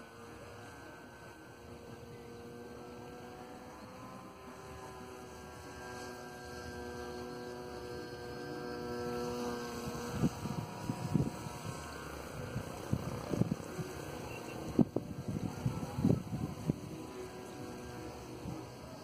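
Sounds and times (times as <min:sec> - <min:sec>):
rc plane motor humming: 0:00.0 - 0:19.0.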